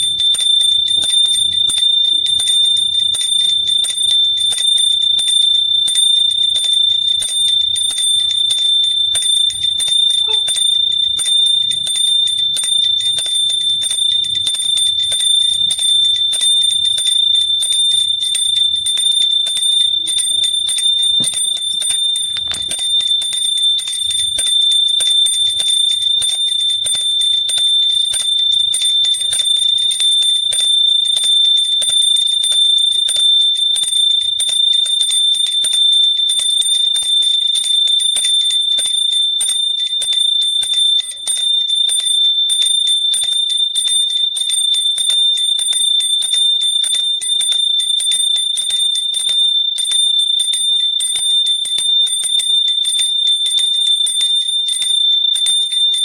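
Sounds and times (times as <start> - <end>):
small hand bell ringing: 0.0 - 56.0.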